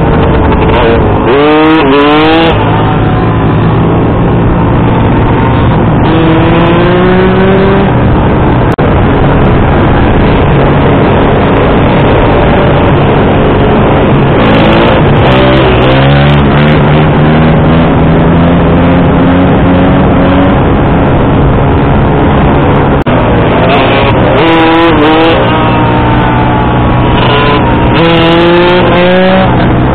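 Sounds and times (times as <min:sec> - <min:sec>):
motorbike engine drone: 0:00.0 - 0:29.9
wind rushing over microphone: 0:00.0 - 0:29.9.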